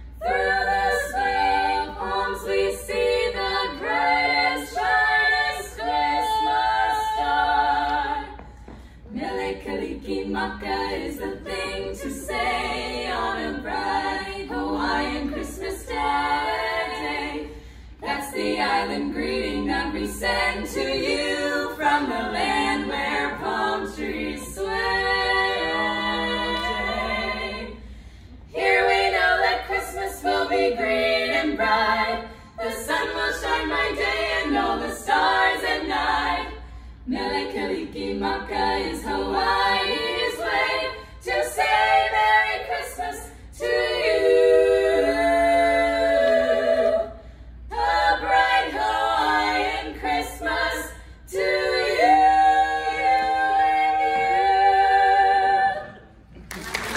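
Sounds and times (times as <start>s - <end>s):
female quartet singing a cappella: 0.0s - 56.9s.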